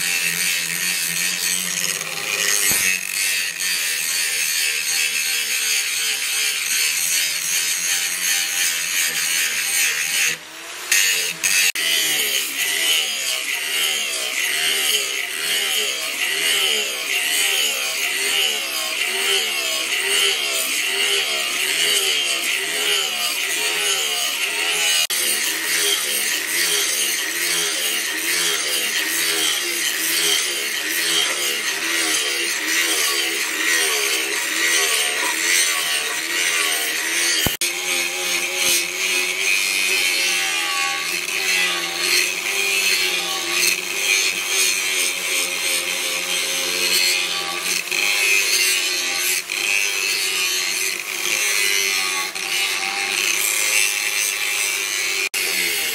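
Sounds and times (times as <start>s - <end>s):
angle grinder grinding metal: 0.0s - 55.9s.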